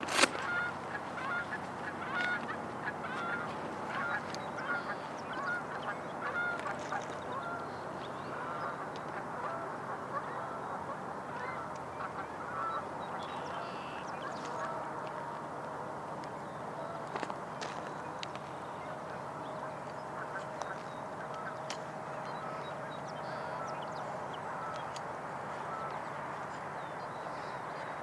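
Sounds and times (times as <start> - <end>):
geese honking: 0.0 - 15.4, 18.8 - 26.7.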